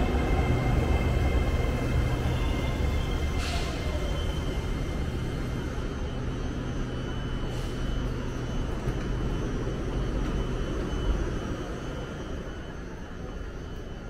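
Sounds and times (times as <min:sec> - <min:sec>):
electric train humming: 0:00.0 - 0:14.0.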